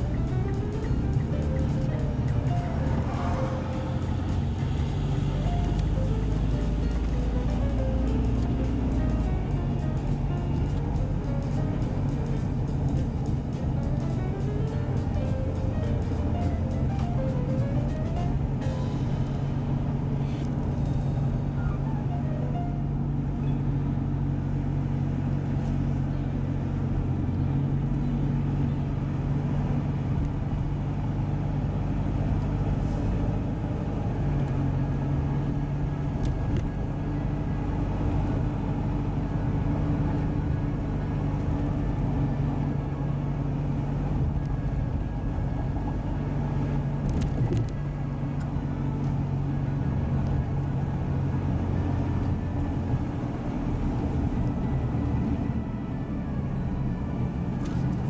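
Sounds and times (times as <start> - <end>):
minivan engine droning: 0.0 - 58.0.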